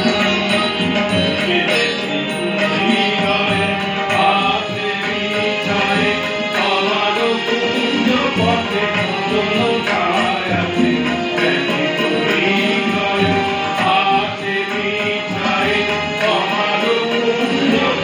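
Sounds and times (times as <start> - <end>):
harmonium: 0.0 - 18.0
tabla: 0.0 - 18.0
women singing together: 2.8 - 18.0.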